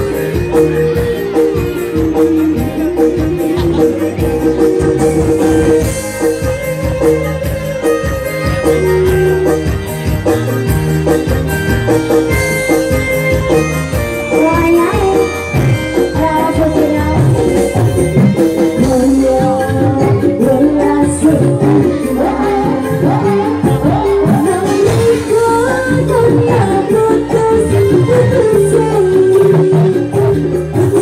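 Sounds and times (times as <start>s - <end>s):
drums beating quick rhythm: 0.0s - 31.0s.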